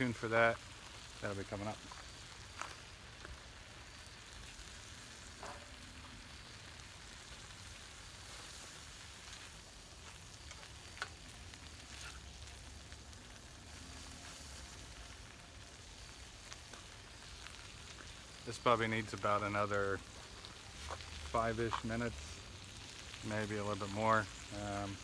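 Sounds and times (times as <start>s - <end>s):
vegetables sizzling in a pan: 0.0s - 25.0s.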